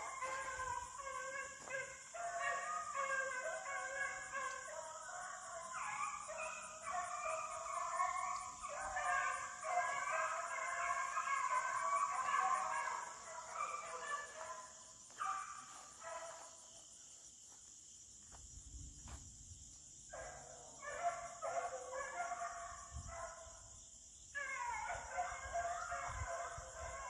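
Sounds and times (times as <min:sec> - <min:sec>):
hounds baying: 0:00.0 - 0:16.7, 0:20.1 - 0:23.6, 0:24.4 - 0:27.0.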